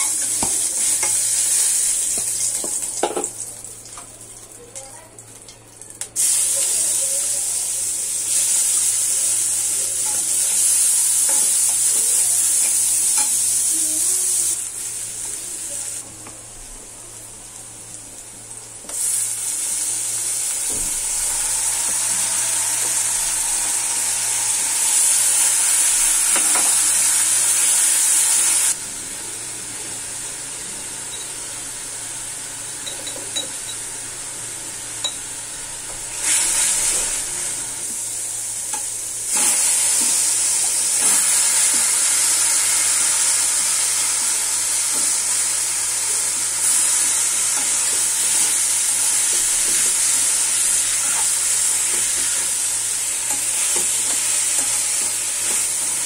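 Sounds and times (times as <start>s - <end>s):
onions sizzling in hot oil: 0.0s - 16.1s, 16.8s - 56.0s.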